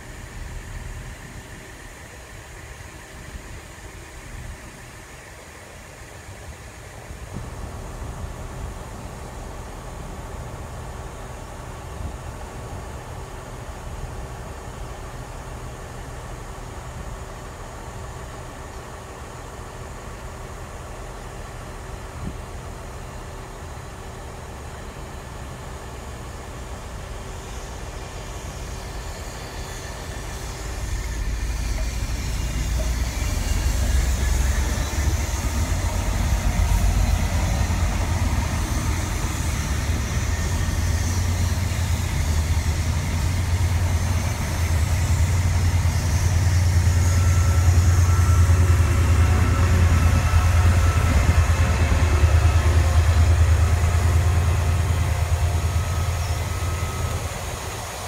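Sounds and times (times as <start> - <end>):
diesel locomotive under power: 0.0 - 58.0
passenger train rumbling past: 0.0 - 58.0.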